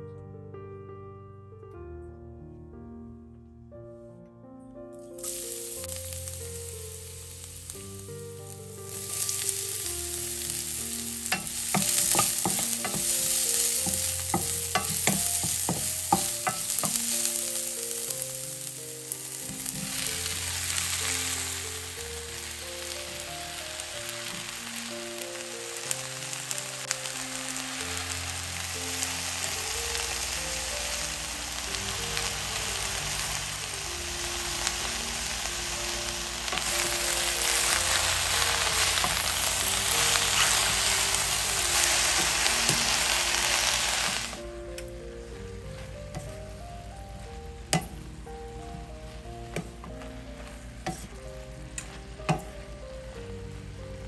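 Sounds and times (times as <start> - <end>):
vegetables sizzling in oil: 5.1 - 44.5, 45.2 - 54.0.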